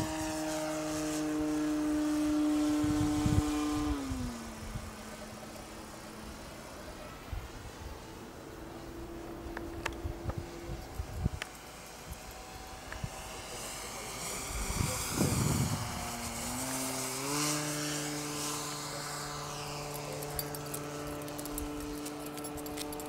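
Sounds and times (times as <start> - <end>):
model plane electric motor whine: 0.0 - 23.0.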